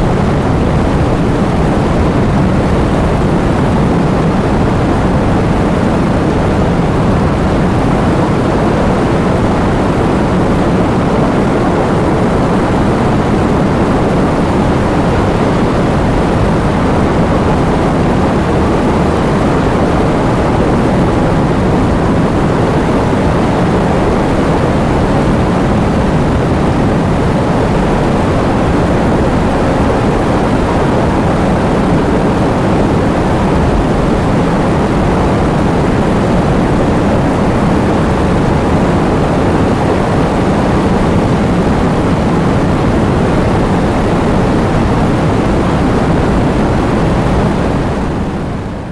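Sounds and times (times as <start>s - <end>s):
heavy rain with wind: 0.0s - 48.9s.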